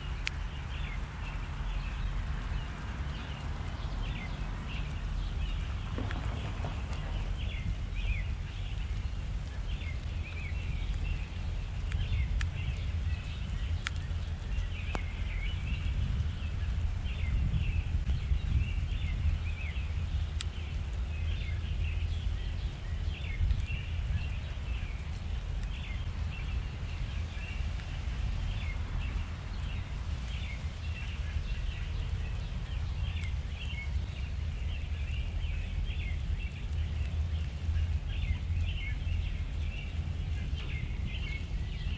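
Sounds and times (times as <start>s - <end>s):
low rumble: 0.0s - 41.9s
small birds chirping: 0.0s - 41.9s.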